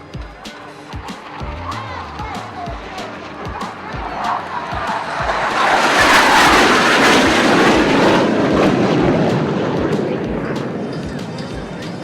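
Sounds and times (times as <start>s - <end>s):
jet aircraft flying past: 0.6s - 12.0s.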